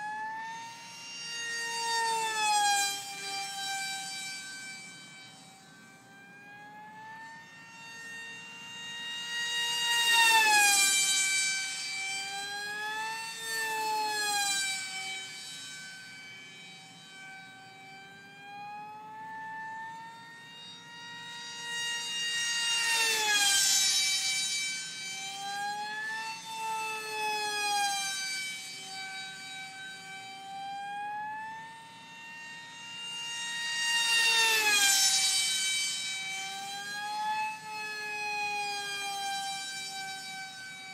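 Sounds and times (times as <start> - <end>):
electric model plane motor whine: 0.0 - 40.9.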